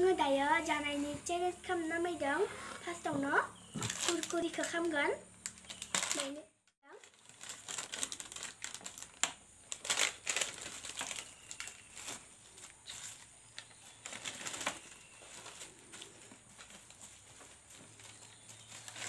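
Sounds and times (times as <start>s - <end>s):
plastic crinkling and rustling: 3.7s - 19.0s.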